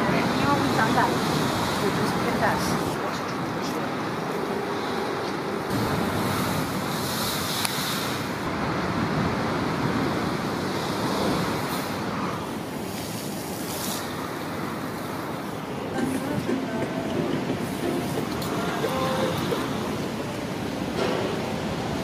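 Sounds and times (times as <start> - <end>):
wind blowing: 0.0 - 22.0.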